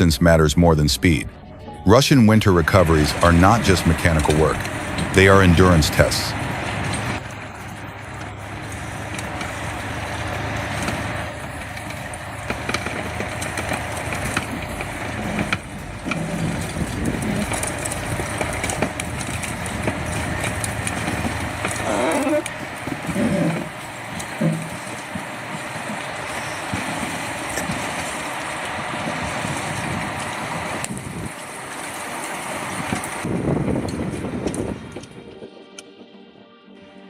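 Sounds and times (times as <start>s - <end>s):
heavy machine engine running: 0.0s - 35.4s.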